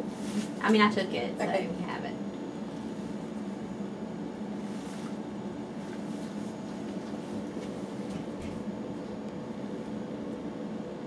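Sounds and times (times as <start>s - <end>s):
low hum of equipment: 0.0s - 11.0s.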